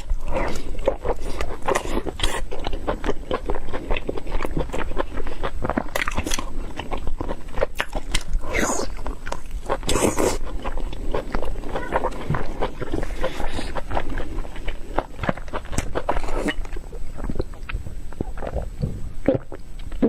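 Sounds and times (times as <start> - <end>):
person chewing and smacking: 0.0 - 20.0.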